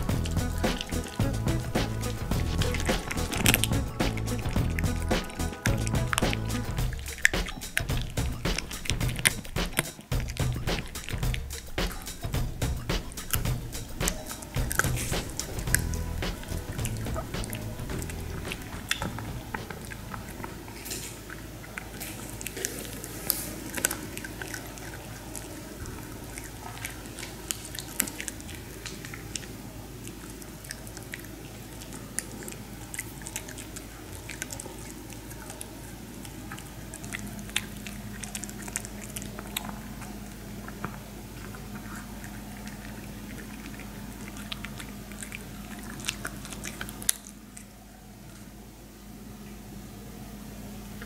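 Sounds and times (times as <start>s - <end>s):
dog chewing crunchy treat: 0.0s - 48.5s.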